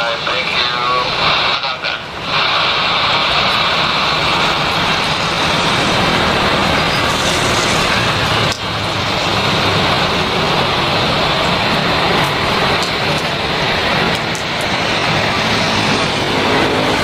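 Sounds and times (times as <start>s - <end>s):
heavy rain: 0.0s - 17.0s
jet airliner takeoff roar: 0.0s - 17.0s
low hum: 0.2s - 17.0s.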